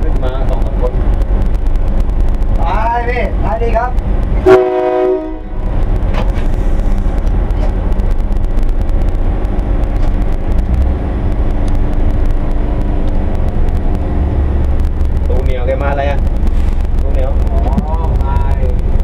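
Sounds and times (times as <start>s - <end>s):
wheels clicking on track: 0.0s - 4.5s, 5.2s - 19.0s
diesel railcar rumble: 0.0s - 19.0s.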